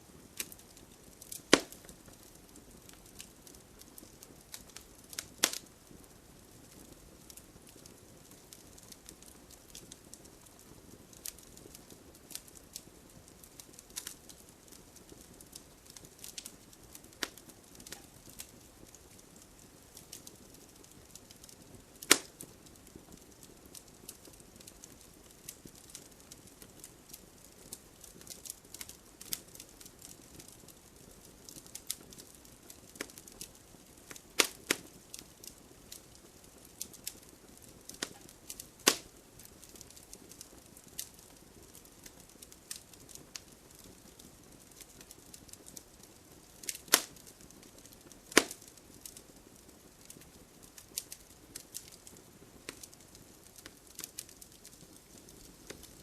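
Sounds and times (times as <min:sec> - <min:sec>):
burning wood popping: 0:00.0 - 0:56.0
wood fire crackling: 0:00.0 - 0:56.0.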